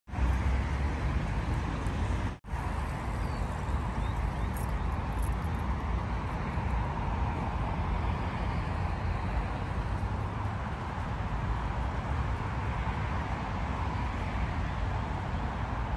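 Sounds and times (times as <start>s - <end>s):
city background rumble: 0.1s - 15.9s.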